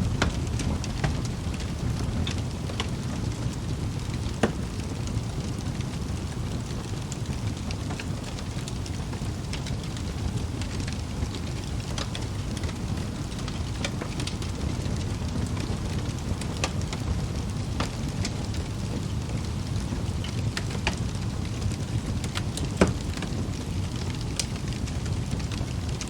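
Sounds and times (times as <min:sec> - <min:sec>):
fire rumbling: 0:00.0 - 0:26.0
logs crackling and popping: 0:00.0 - 0:26.0.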